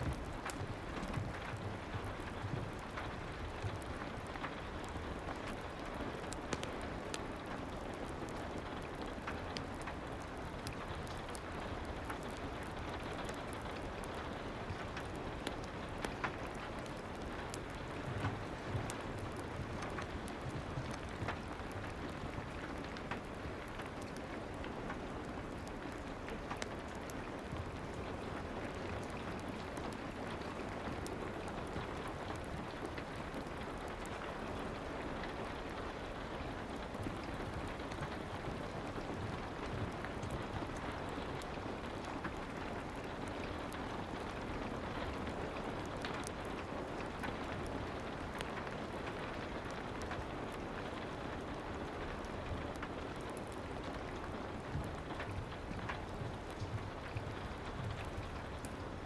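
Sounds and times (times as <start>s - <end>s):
soft rain: 0.0s - 59.0s
wood fire crackling: 0.0s - 59.0s.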